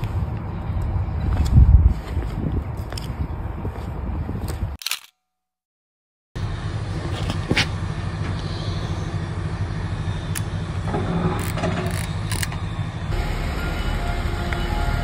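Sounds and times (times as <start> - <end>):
low outdoor rumble: 0.0 - 4.8, 6.4 - 15.0.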